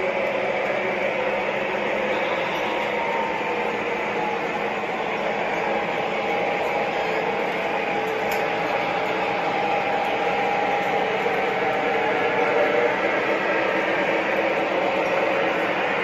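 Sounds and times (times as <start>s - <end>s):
model trains rumbling on track: 0.0s - 16.0s
steady whine: 0.0s - 16.0s.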